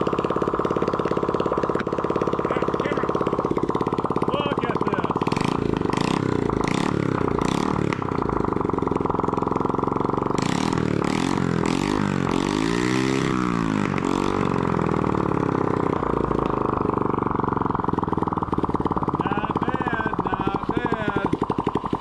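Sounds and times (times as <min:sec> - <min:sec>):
unmuffled engine revving: 0:00.0 - 0:22.0.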